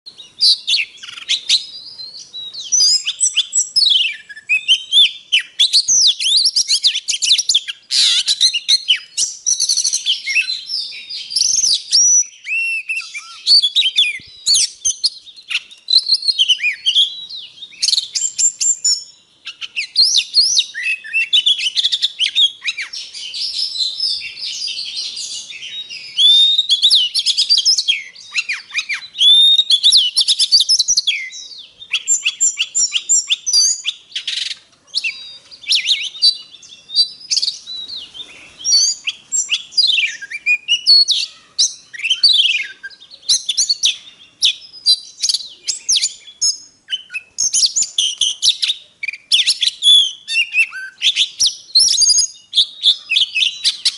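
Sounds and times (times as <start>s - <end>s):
songbird singing varied song: 0.0s - 53.9s.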